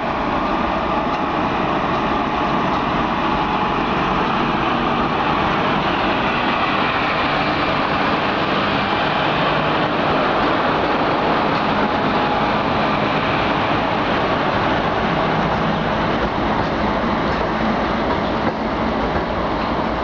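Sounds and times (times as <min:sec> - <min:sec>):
locomotive passing: 0:00.0 - 0:20.0.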